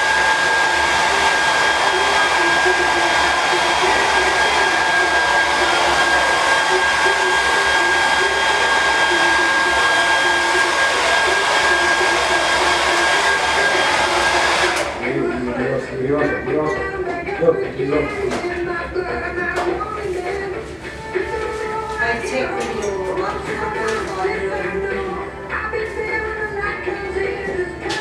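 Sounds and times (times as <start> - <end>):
hair dryer running: 0.0 - 25.3.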